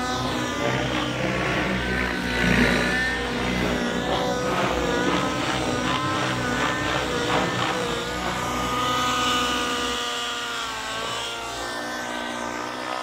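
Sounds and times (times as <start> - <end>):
model helicopter engine and rotor whine: 0.0 - 13.0.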